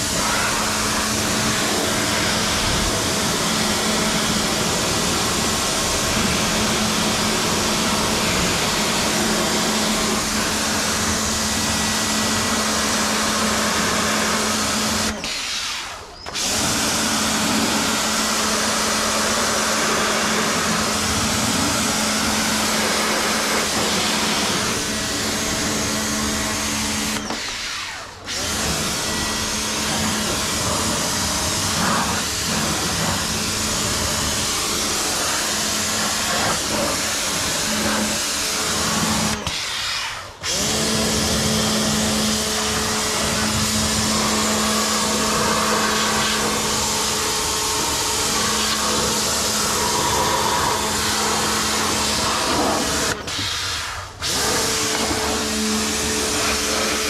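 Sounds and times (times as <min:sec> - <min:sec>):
pressure washer motor hum: 0:00.0 - 0:57.0.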